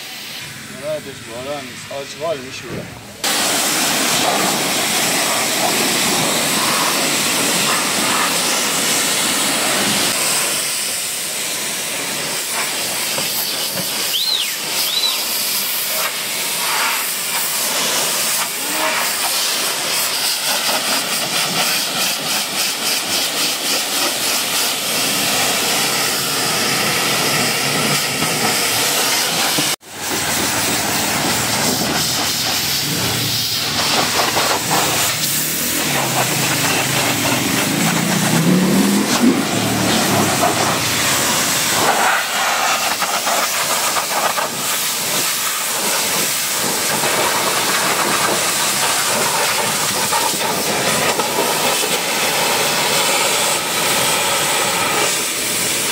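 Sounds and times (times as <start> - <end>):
pressure washer spraying water: 0.0 - 55.9.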